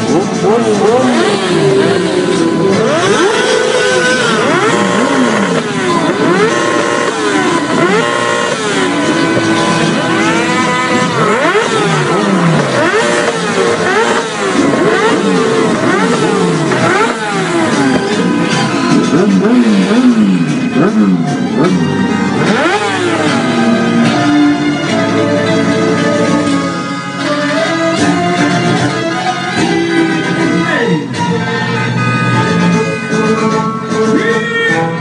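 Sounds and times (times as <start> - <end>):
vehicle engines revving: 0.0 - 35.0.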